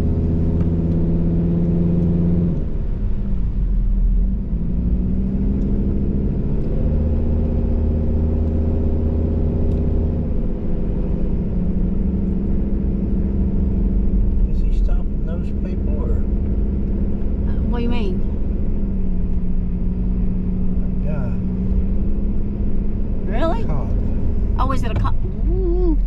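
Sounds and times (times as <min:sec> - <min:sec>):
car engine: 0:00.0 - 0:26.0
road noise inside car: 0:00.0 - 0:26.0.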